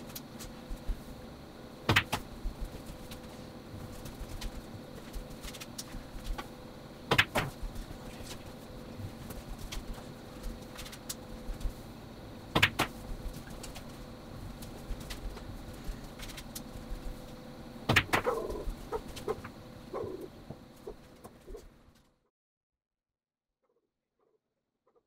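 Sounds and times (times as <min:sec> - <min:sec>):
faint steady hum: 0:00.0 - 0:22.1.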